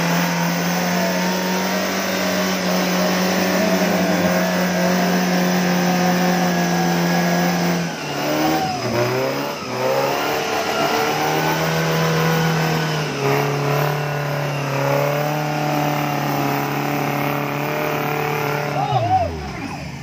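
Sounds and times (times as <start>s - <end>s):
jeep engine revving hard: 0.0s - 20.0s.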